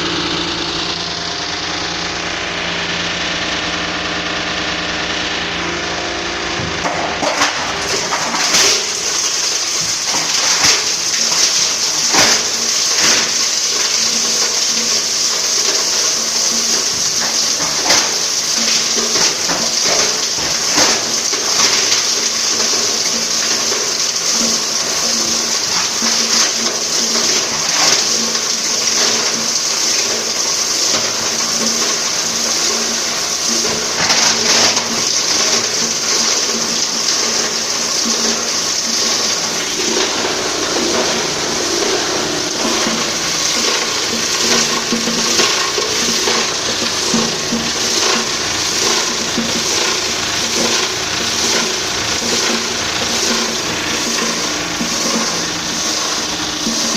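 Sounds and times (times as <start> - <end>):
plastic granulator rushing: 0.0 - 56.9.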